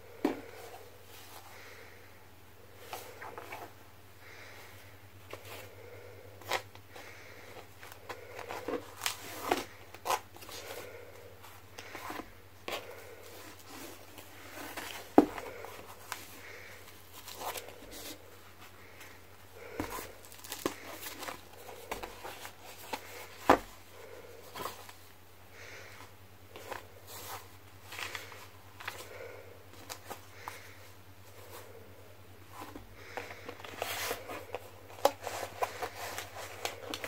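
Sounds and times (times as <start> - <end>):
fabric and paper rustling: 6.4 - 31.8, 32.4 - 37.0.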